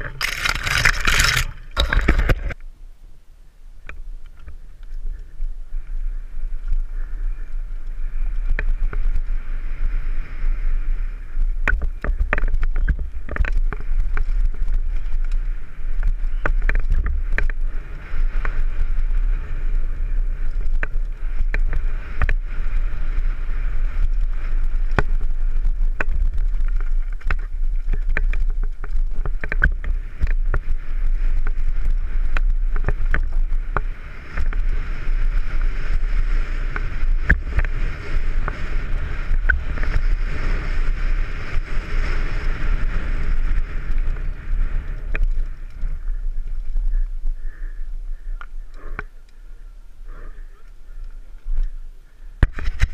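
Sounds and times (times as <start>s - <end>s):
bike rattling clacks: 0.0s - 2.6s, 6.6s - 47.6s
wind rumble on microphone: 0.0s - 52.9s.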